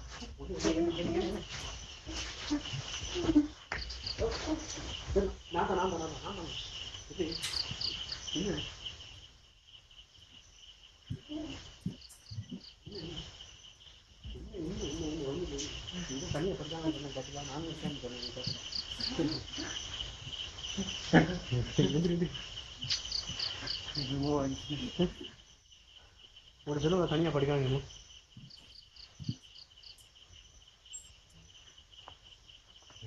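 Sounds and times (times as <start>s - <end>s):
crickets chirring: 0.0s - 33.0s.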